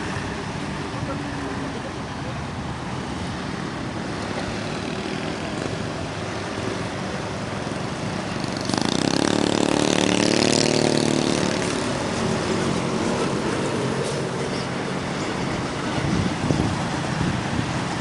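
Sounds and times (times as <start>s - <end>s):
diesel truck engine: 0.0s - 18.0s
road traffic noise: 0.0s - 18.0s.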